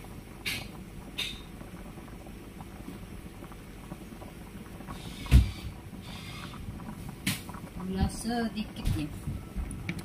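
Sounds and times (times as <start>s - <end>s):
sauce bubbling in a pan: 0.0s - 10.0s.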